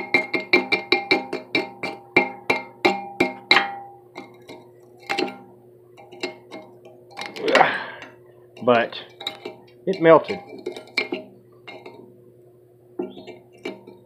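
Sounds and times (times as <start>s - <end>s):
rod tapping metal crucible: 0.0s - 12.1s, 13.0s - 14.0s.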